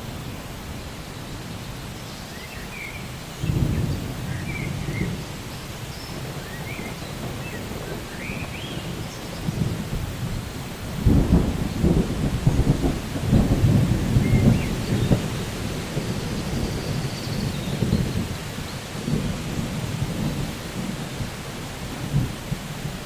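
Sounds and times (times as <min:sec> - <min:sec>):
steady rain: 0:00.0 - 0:23.0
rolling thunder rumbling: 0:03.4 - 0:23.0.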